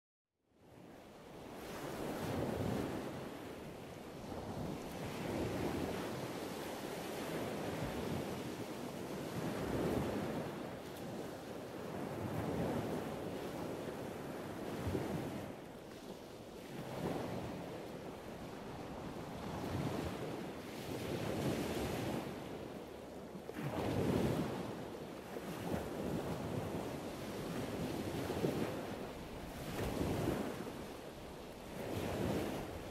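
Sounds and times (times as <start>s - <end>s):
wind on microphone: 0.7s - 32.9s.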